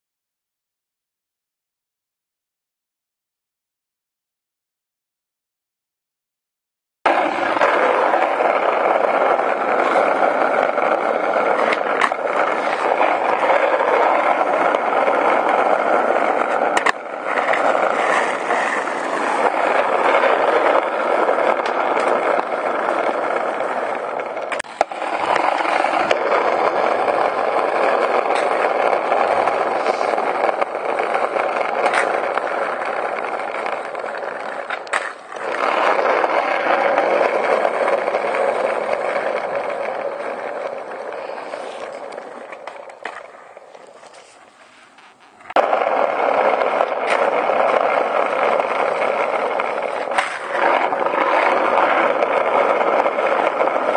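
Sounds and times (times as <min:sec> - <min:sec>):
skateboard wheels rumbling on asphalt: 0:07.1 - 0:53.9.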